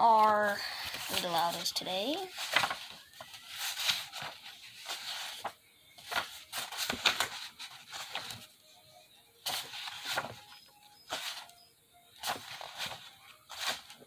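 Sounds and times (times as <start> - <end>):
book pages rustling: 0.0 - 8.8, 9.4 - 14.0.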